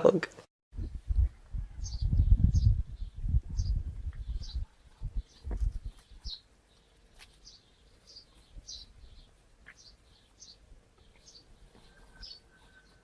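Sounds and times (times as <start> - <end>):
faint bird chirping: 1.5 - 13.0.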